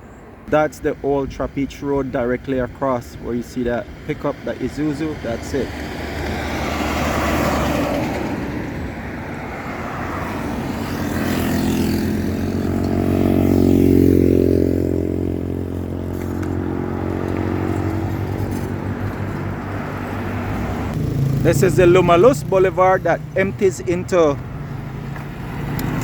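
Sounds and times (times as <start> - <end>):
vehicle engine and road noise: 0.0 - 26.0
passing vehicle engine: 3.8 - 26.0.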